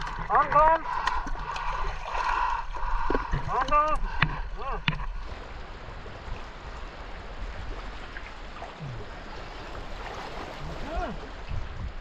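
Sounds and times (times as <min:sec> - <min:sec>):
river water flowing and splashing: 0:00.0 - 0:12.0.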